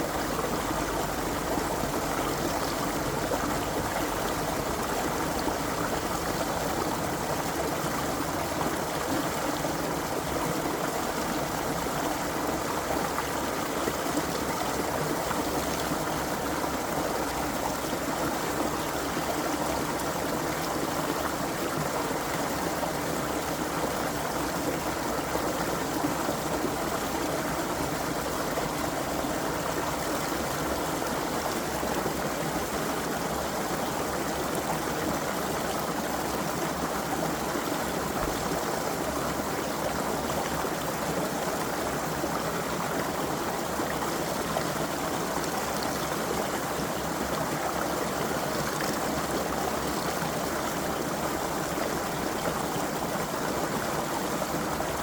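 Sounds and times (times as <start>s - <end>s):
creek water flowing over stones: 0.0s - 55.0s.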